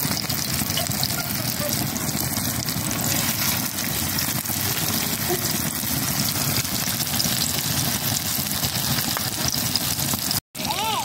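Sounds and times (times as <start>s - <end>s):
patties sizzling in hot oil: 0.0s - 11.0s.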